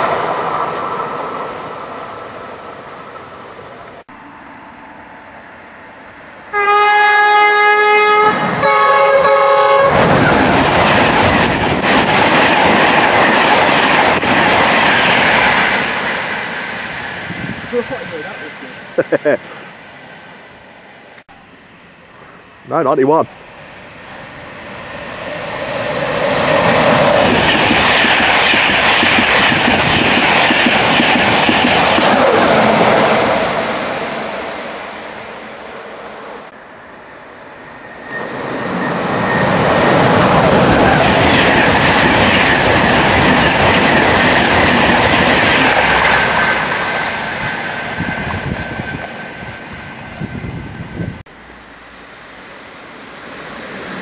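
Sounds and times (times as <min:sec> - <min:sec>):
high train whine: 0:00.0 - 0:54.0
train passing at speed: 0:00.0 - 0:54.0.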